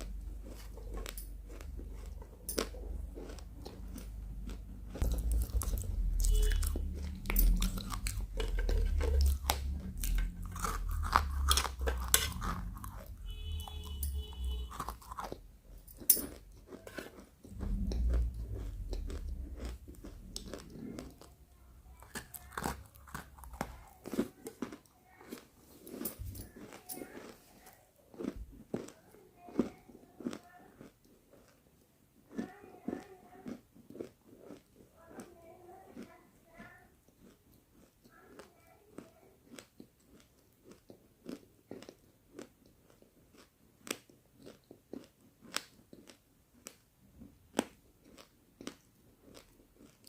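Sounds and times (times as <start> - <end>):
crunching and chewing chalk: 0.0 - 50.0.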